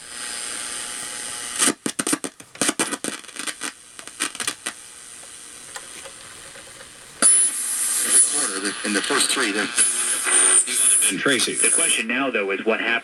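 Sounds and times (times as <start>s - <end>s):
radio receiver hiss: 0.0s - 13.0s
static crackles and clicks: 0.0s - 13.0s.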